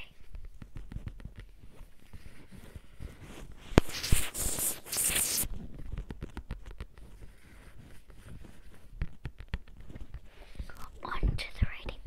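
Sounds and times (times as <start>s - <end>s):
scratchy cable rustle: 0.0s - 12.0s.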